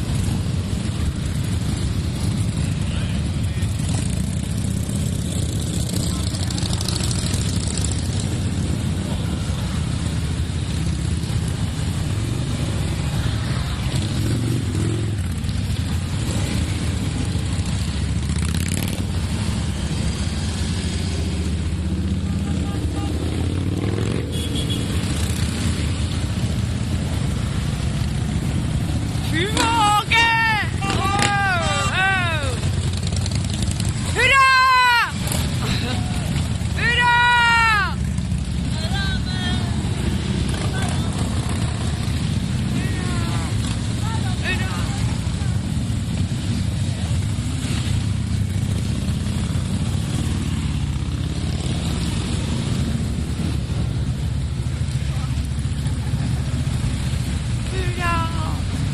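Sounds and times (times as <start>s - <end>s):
motorcycles riding past: 0.0s - 58.9s.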